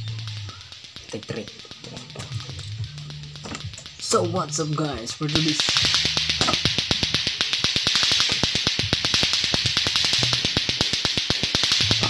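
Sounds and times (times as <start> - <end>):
plastic balls clacking: 0.0 - 12.0
steady high hiss: 0.0 - 12.0.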